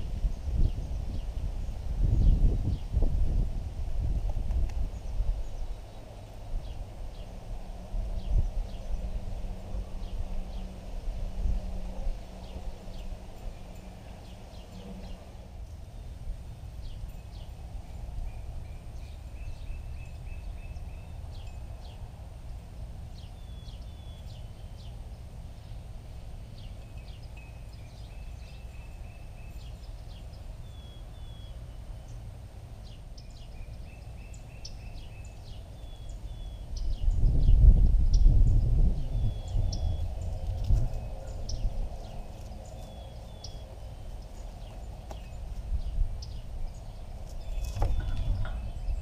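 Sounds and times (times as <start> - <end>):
low outdoor rumble: 0.0 - 49.0
small birds chirping: 4.0 - 49.0.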